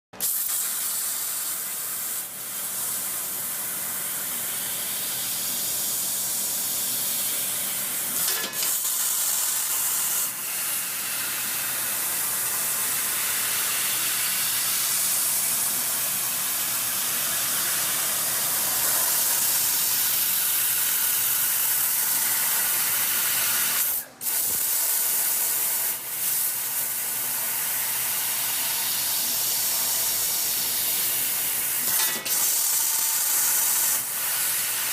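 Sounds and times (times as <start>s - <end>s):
laser cutter gas hissing: 0.2s - 34.9s.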